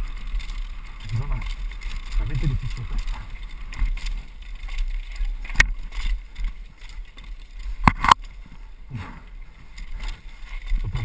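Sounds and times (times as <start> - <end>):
low rumble of wind and tyres: 0.0 - 11.0
mountain bike rattling on dirt trail: 0.0 - 11.0.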